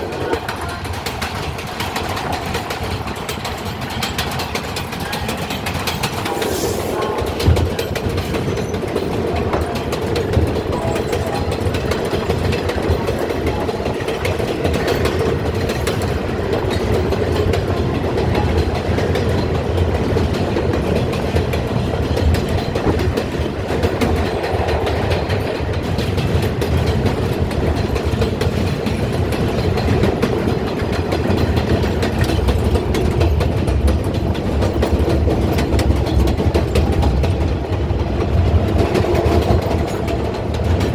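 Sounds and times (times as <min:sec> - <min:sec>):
subway train rumble and hum: 0:00.0 - 0:40.9
wheels clacking over rails: 0:00.0 - 0:40.9.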